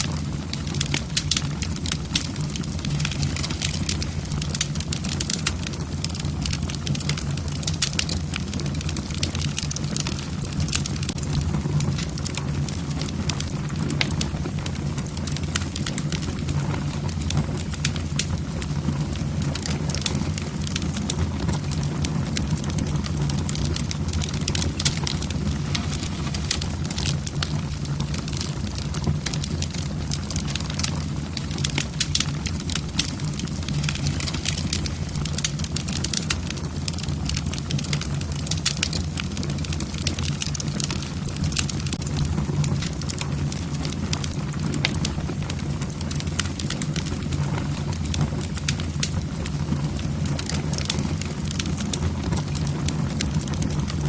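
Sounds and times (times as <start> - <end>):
logs crackling and snapping: 0.0 - 54.0
low rumble of flames: 0.0 - 54.0.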